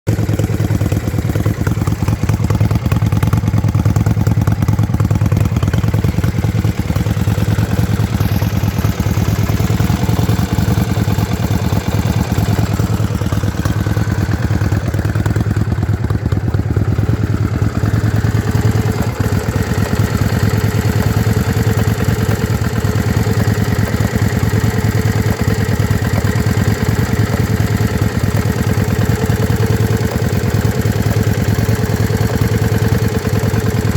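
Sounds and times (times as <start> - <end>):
motorcycle engine idling with misfire: 0.0 - 33.9.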